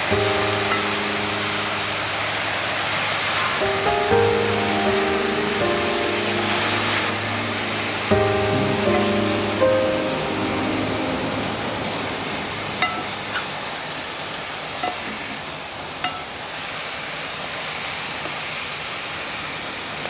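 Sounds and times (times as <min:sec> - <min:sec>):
mushrooms sizzling in metal pan: 0:00.0 - 0:17.2.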